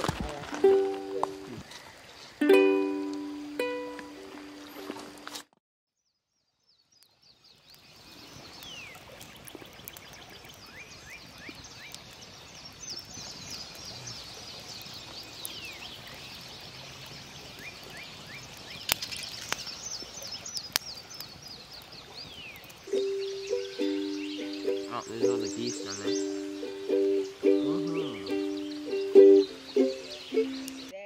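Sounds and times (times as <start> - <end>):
background hiss: 0.0 - 5.4, 6.9 - 31.0
birds chirping: 6.1 - 31.0.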